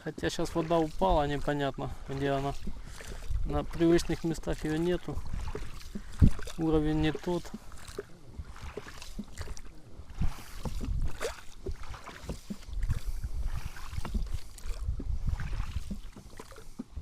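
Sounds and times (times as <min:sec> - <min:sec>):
oars knocking and splashing: 0:00.0 - 0:17.0.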